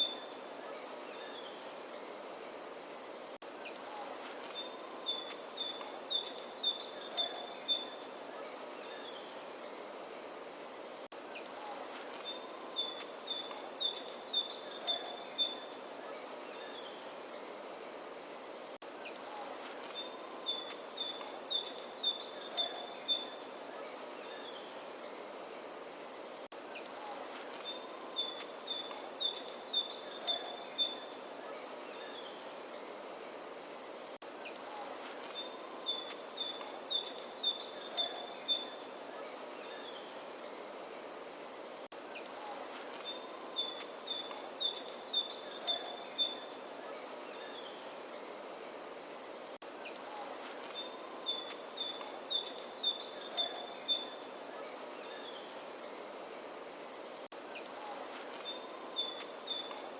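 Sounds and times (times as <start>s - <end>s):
bird singing: 0.0s - 59.9s
faint steady hiss: 0.0s - 59.9s.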